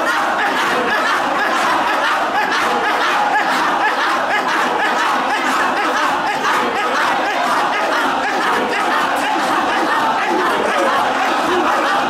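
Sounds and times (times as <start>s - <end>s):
crowd voices overlapping: 0.0s - 12.0s.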